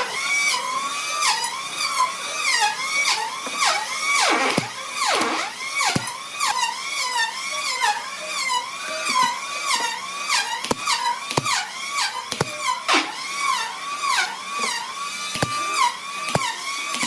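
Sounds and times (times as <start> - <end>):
electric power tool whining under load: 0.0 - 17.0.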